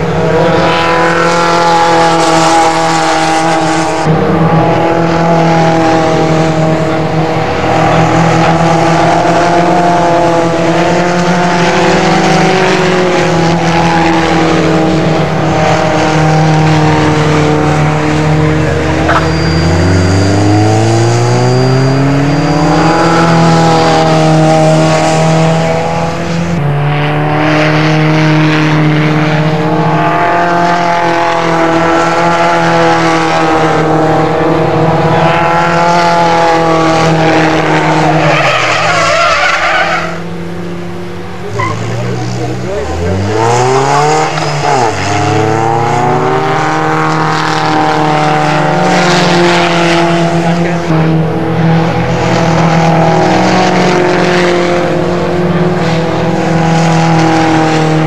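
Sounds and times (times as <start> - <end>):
engine accelerating: 0.0 - 58.0
racing car engines: 0.0 - 58.0.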